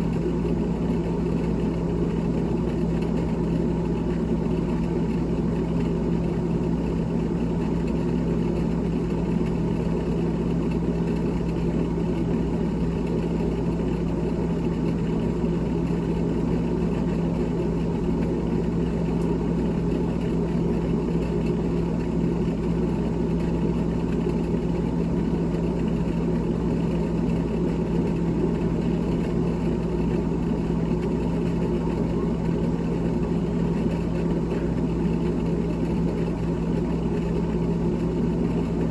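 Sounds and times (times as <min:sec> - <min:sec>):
refrigerator humming: 0:00.0 - 0:38.9.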